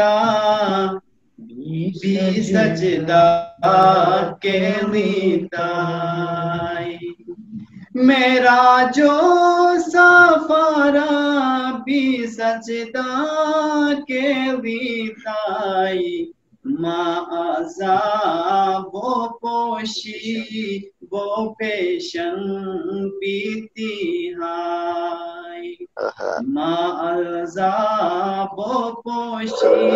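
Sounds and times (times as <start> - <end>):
man chanting melodically: 0.0 - 29.9.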